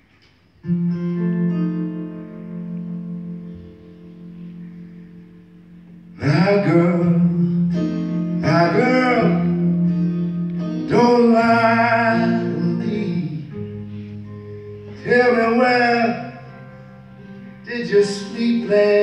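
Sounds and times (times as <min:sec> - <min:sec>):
acoustic blues band playing: 0:00.6 - 0:19.0
bending lead guitar line: 0:00.7 - 0:19.0.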